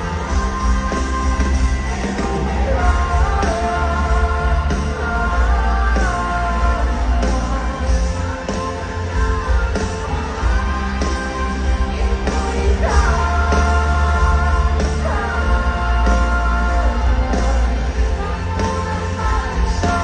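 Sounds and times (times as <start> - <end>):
live rock music: 0.0 - 20.0.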